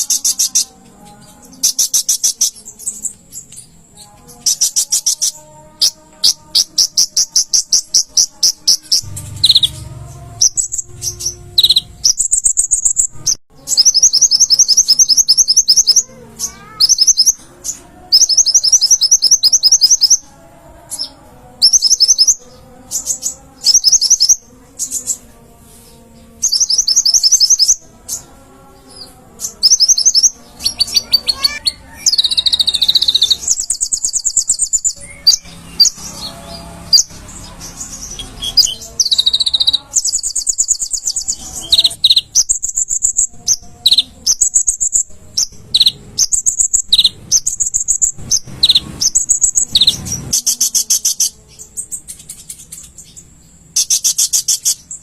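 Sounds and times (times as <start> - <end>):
sunbird high-pitched trills: 0.0 - 20.3, 26.3 - 28.2, 28.9 - 55.0.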